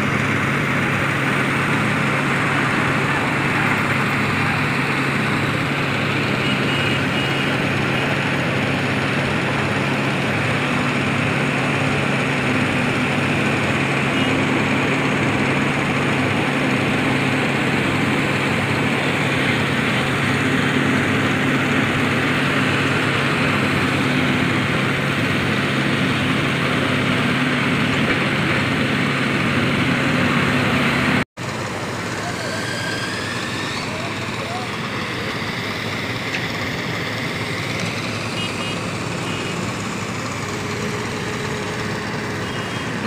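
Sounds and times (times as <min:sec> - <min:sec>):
heavy machinery diesel engines running: 0:00.0 - 0:43.0.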